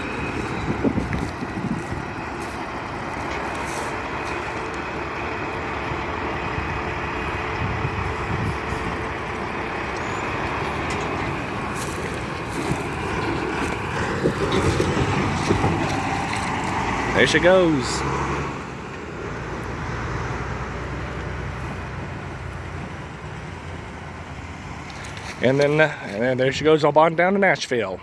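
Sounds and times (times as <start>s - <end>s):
freight train rumbling: 0.0s - 28.0s.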